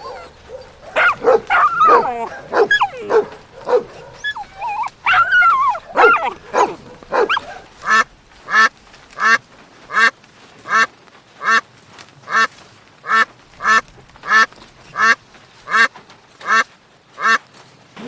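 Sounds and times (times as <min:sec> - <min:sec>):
duck quacking: 0:00.0 - 0:10.1, 0:10.7 - 0:11.6, 0:12.3 - 0:12.5, 0:13.1 - 0:16.6, 0:17.2 - 0:17.4.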